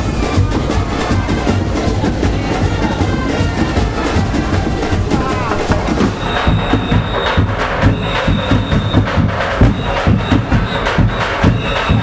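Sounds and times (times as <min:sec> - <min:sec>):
percussion band drumming: 0:00.0 - 0:12.0.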